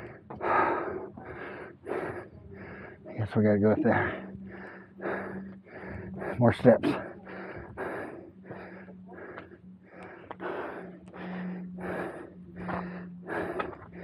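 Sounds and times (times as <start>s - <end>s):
man breathing hard: 0.0s - 14.0s.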